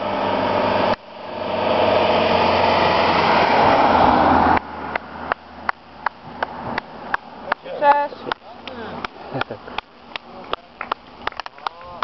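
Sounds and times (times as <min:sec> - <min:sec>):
van engine and tyre noise: 0:00.0 - 0:12.0.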